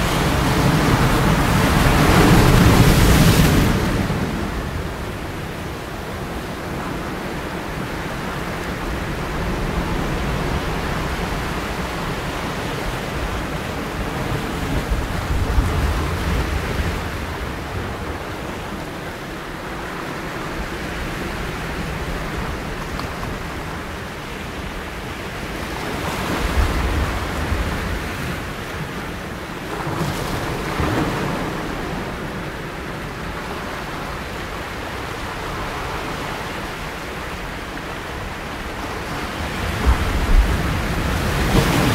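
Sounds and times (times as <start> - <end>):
ocean surf washing: 0.0 - 41.9.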